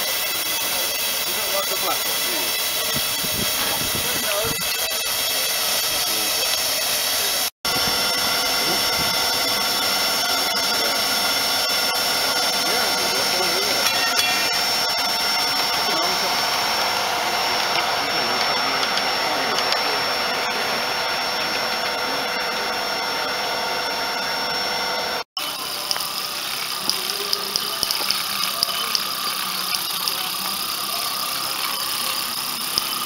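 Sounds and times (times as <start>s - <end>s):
motor running with high whine: 0.0s - 33.0s.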